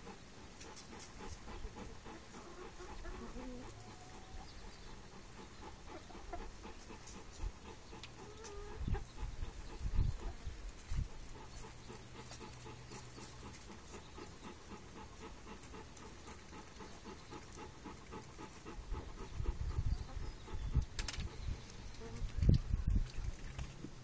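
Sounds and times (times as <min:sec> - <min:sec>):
dog panting: 0:00.0 - 0:22.8.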